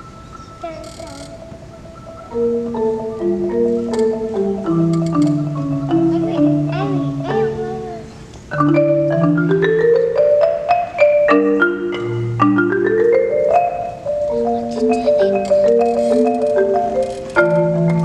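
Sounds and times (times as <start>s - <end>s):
marimba runs played with mallets: 0.0s - 18.0s.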